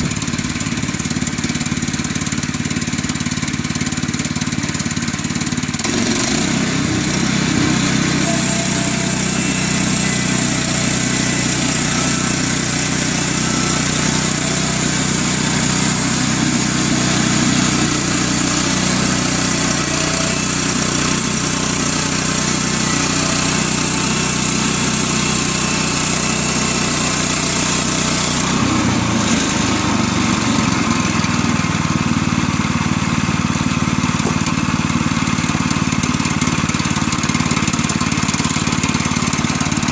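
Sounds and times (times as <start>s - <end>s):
band blade sawing log: 0.0s - 31.6s, 33.6s - 39.9s
small gas engine running: 0.0s - 39.9s.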